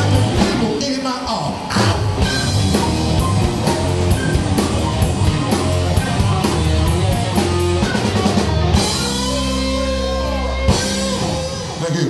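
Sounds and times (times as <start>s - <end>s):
bass guitar: 0.0s - 12.0s
drum kit with cymbal hits: 0.0s - 12.0s
electric guitar: 0.0s - 12.0s.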